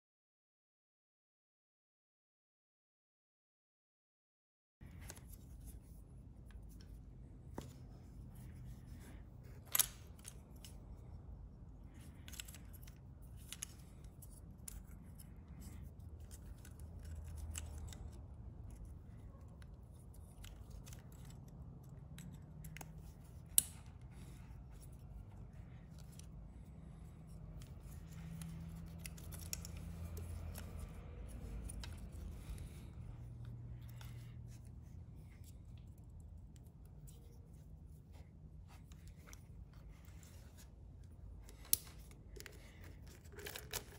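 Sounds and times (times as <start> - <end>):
faint low hum: 4.8 - 43.9.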